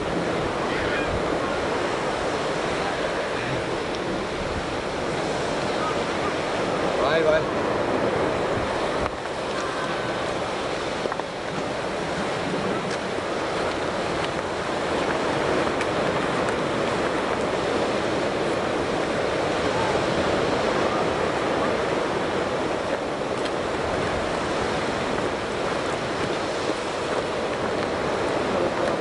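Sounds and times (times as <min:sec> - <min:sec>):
ocean surf breaking: 0:00.0 - 0:29.0
wind: 0:00.0 - 0:29.0.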